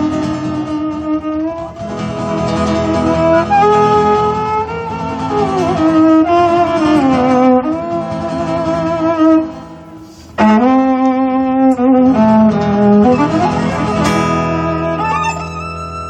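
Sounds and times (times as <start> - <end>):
violin with vibrato: 0.0 - 16.0.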